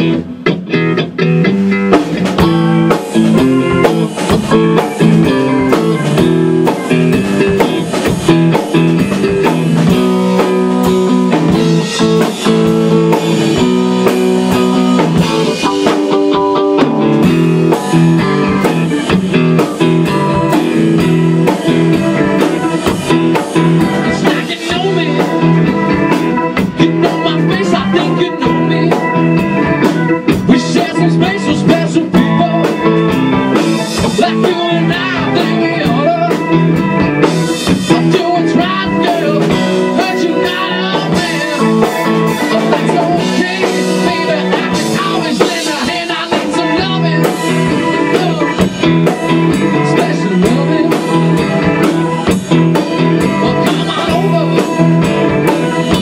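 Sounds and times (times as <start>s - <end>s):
drum kit: 0.0s - 56.0s
electric guitar: 0.0s - 56.0s
keyboard: 0.0s - 56.0s.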